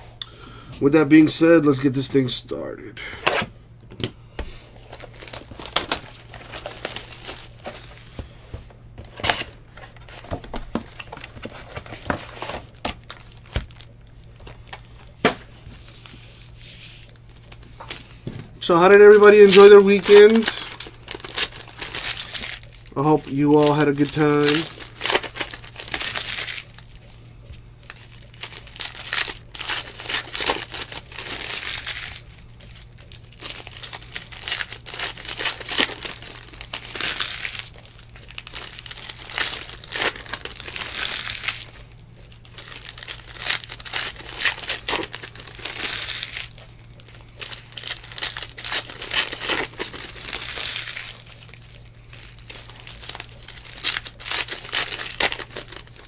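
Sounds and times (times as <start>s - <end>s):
steady low hum: 0.0s - 56.0s
foil wrappers crinkling and tearing: 4.7s - 56.0s.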